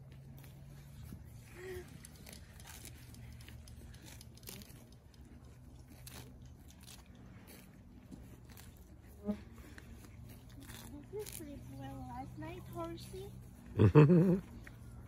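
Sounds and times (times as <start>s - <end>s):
horse chewing grass: 0.0s - 15.0s.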